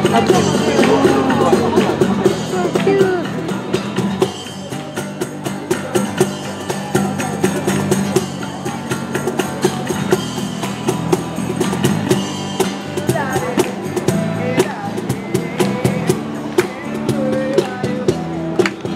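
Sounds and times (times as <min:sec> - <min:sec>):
acoustic guitar: 0:00.0 - 0:18.9
cajon steady beat: 0:00.0 - 0:18.9
electric guitar: 0:00.0 - 0:18.9.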